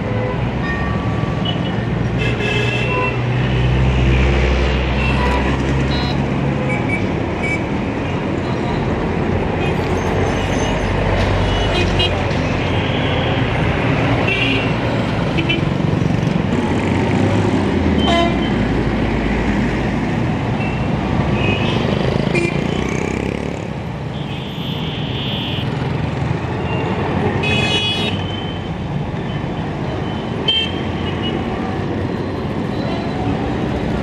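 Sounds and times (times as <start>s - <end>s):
traffic engines running: 0.0s - 34.0s.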